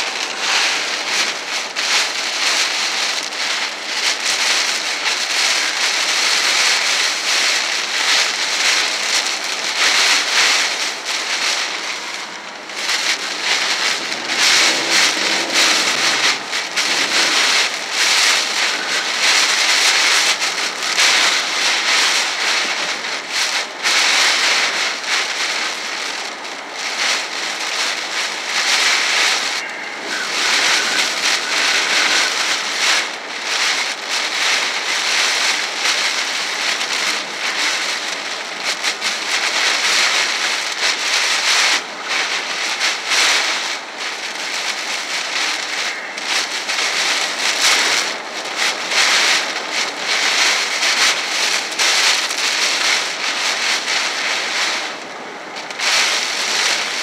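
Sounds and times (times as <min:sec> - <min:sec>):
heavy rain drumming on car roof: 0:00.0 - 0:57.0
tyre and wind noise: 0:00.0 - 0:57.0.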